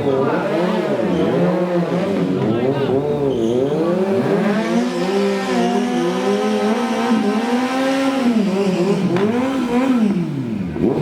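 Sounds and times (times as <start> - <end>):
superbike engine revving: 0.0 - 11.0.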